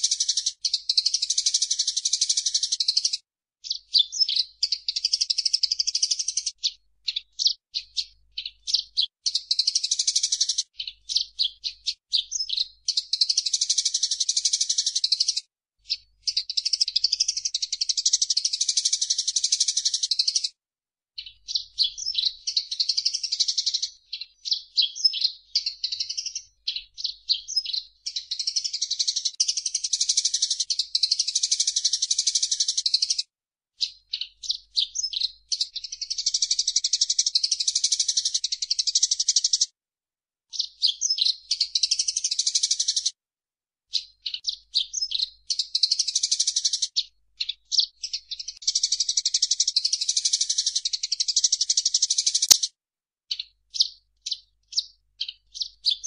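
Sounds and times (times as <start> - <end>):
sparrows chirping: 0.0 - 20.6, 21.2 - 33.2, 33.8 - 39.7, 40.5 - 43.1, 43.9 - 52.7, 53.3 - 56.0.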